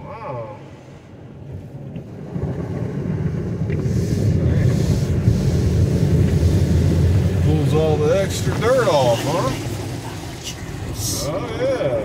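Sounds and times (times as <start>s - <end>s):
car wash rumble from inside car: 0.0s - 12.0s.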